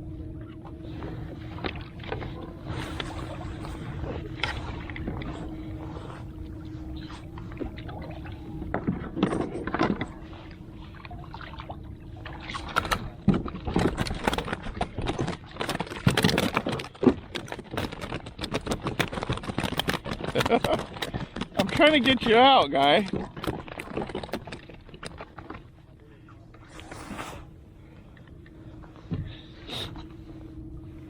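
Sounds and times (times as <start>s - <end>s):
steady low hum: 0.0s - 31.0s
water splashing around kayak: 0.4s - 31.0s.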